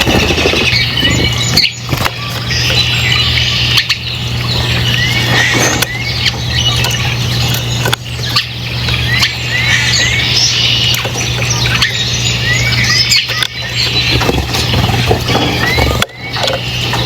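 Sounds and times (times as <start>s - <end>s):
birds chirping and squawking: 0.0s - 17.0s
steady low hum: 0.0s - 17.0s.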